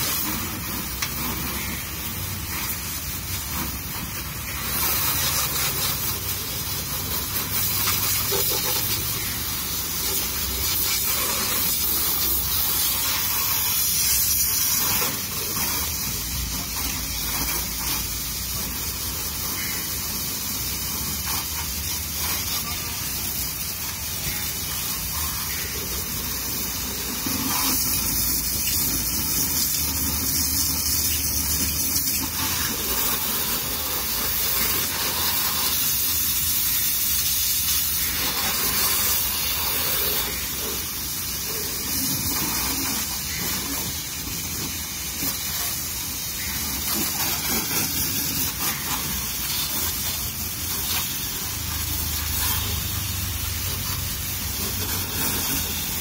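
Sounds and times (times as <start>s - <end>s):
water jet spraying car: 0.0s - 56.0s.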